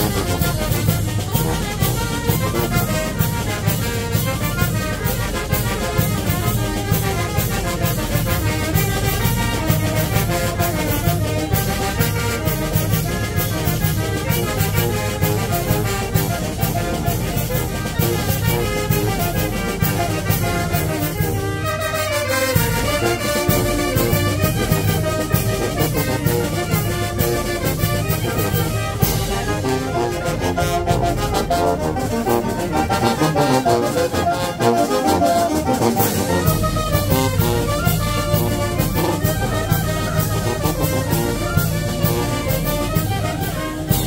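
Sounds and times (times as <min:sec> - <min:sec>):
brass-led dance music: 0:00.0 - 0:44.0.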